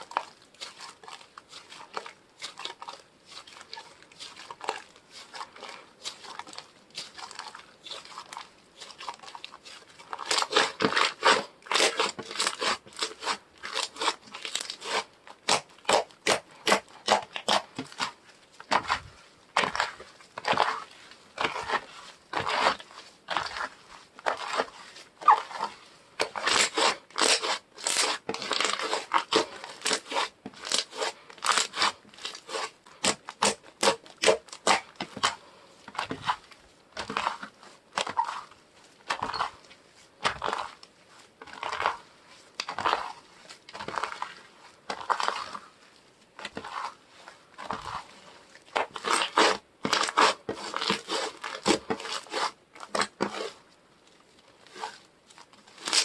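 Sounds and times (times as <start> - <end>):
slime squishing by hand: 0.0 - 56.0.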